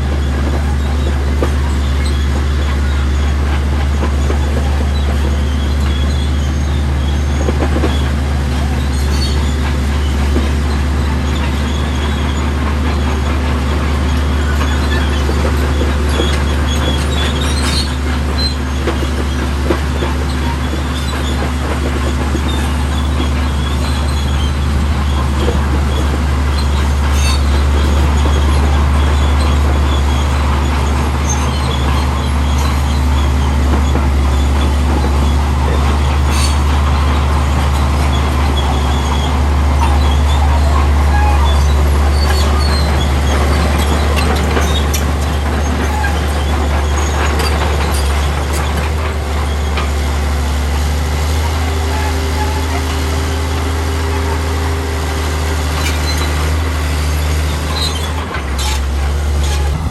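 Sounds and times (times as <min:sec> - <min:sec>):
bulldozer diesel engine humming: 0:00.0 - 0:59.9
squeaks and clicks from steel tracks: 0:00.0 - 0:59.9.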